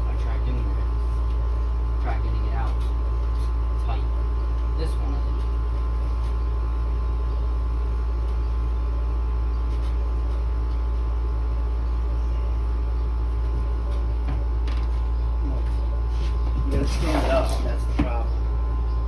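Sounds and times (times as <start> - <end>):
air conditioner humming: 0.0 - 19.0
fan noise rushing: 0.0 - 19.0.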